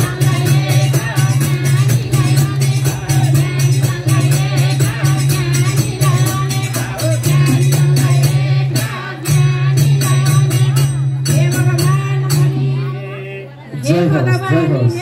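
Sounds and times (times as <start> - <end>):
fast beat with jingling percussion: 0.0 - 13.0, 13.8 - 15.0
person singing: 0.0 - 15.0.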